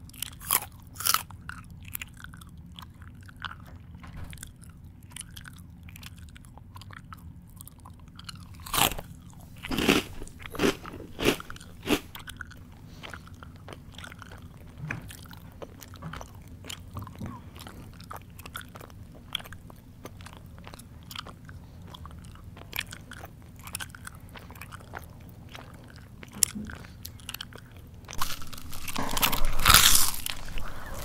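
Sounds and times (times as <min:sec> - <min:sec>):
crunching of crisp food: 0:00.0 - 0:31.0
person chewing with mouth open: 0:00.0 - 0:31.0.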